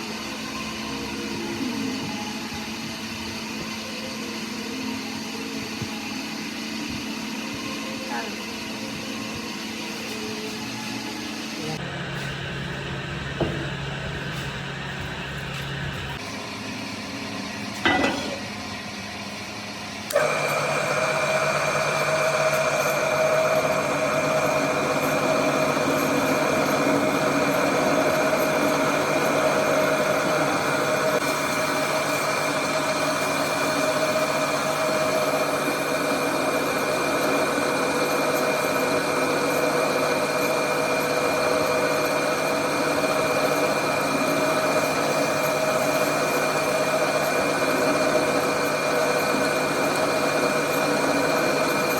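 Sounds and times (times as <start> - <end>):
workshop machine humming and whining: 0.0 - 51.9.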